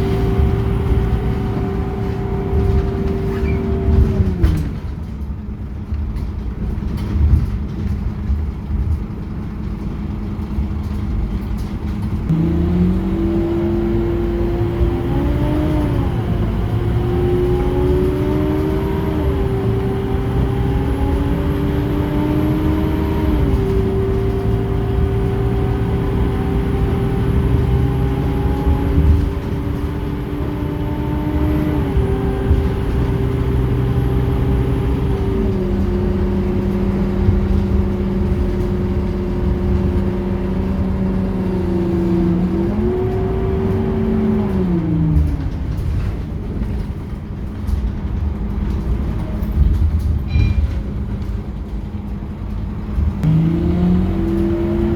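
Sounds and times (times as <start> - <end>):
bus engine accelerating: 0.0 - 54.9.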